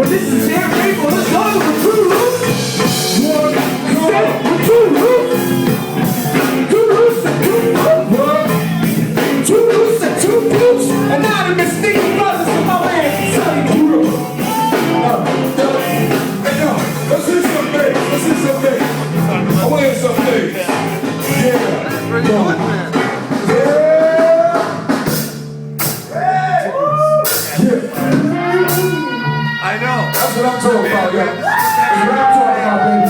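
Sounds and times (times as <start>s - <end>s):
electric guitar: 0.0s - 26.1s, 26.9s - 33.0s
drum kit: 0.0s - 33.0s
electric bass: 0.0s - 33.0s.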